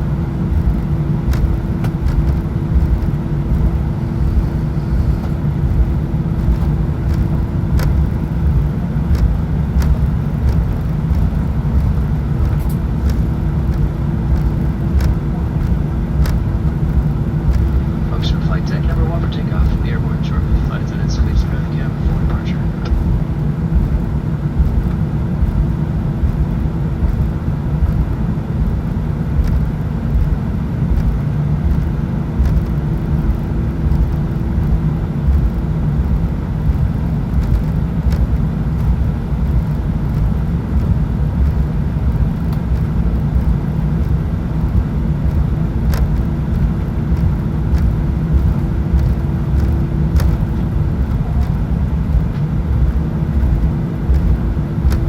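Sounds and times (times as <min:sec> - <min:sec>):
cabin hum: 0:00.0 - 0:55.0
jet engine cabin rumble: 0:00.0 - 0:55.0.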